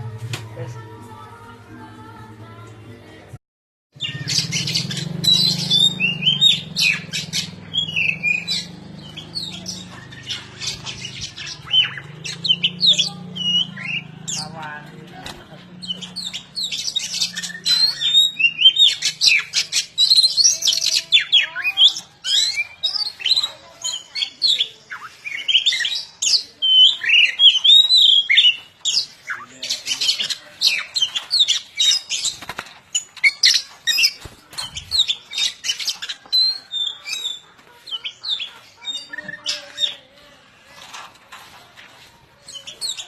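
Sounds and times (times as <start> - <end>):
small birds chirping: 3.9 - 43.0.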